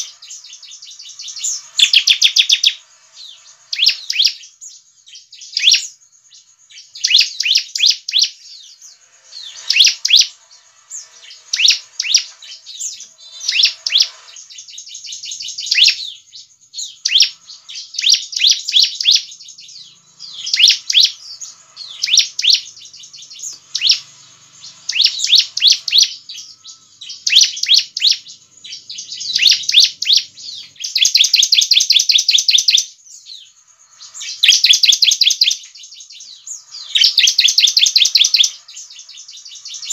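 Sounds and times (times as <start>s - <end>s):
bird chirping rapidly: 0.0s - 39.9s
bird trill: 0.0s - 39.9s.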